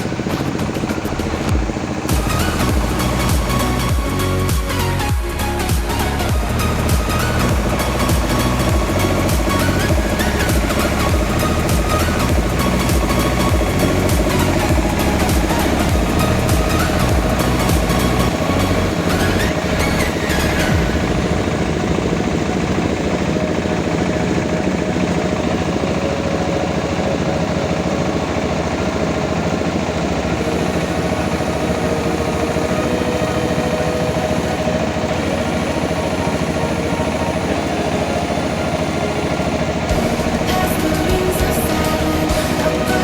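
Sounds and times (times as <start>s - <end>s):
rice milling machine drone: 0.0s - 43.0s.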